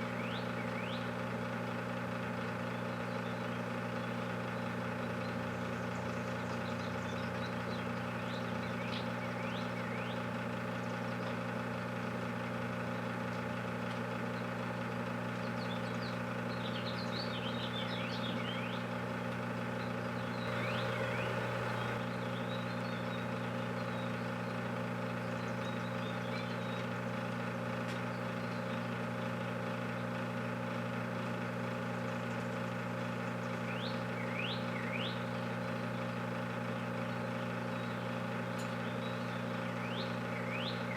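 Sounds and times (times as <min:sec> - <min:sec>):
small birds chirping: 0:00.0 - 0:01.3, 0:02.3 - 0:11.5, 0:14.2 - 0:27.2, 0:27.8 - 0:29.4, 0:31.9 - 0:36.2, 0:36.9 - 0:40.9
microwave oven humming: 0:00.0 - 0:40.9.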